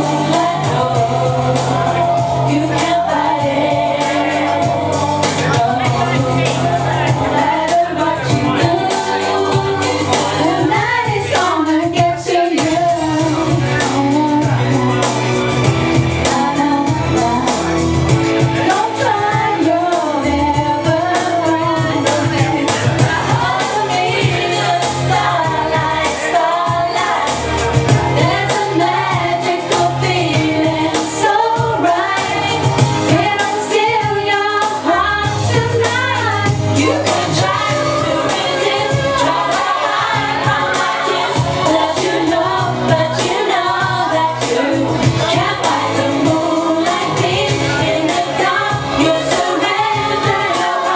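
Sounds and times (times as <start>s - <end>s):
person singing karaoke: 0.0s - 50.9s
pop backing track: 0.0s - 50.9s.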